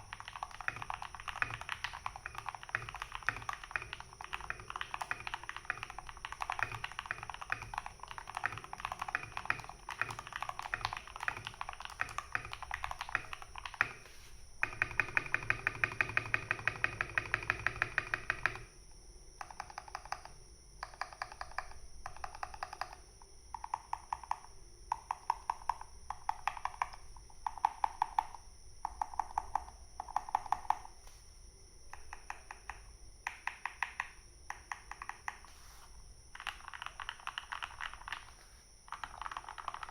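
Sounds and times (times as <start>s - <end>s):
mechanical keyboard typing: 0.0s - 14.0s, 14.6s - 18.7s, 19.4s - 31.0s, 31.9s - 35.5s, 36.3s - 39.9s.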